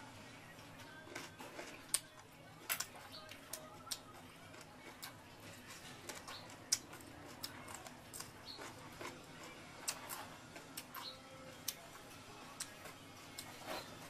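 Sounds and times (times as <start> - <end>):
chewing with crunches: 0.4 - 14.0.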